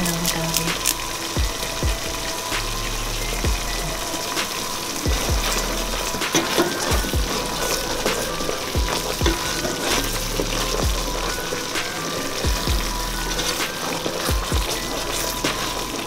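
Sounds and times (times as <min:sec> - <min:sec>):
curry sizzling in a pot: 0:00.0 - 0:16.0
music: 0:00.0 - 0:16.0.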